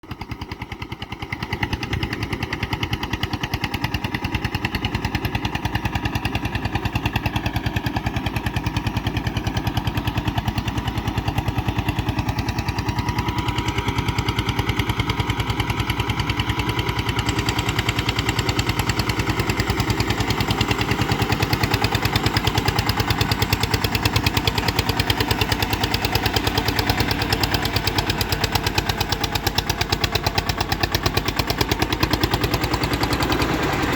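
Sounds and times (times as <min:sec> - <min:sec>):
tractor diesel engine exhaust beats: 0:00.0 - 0:33.9.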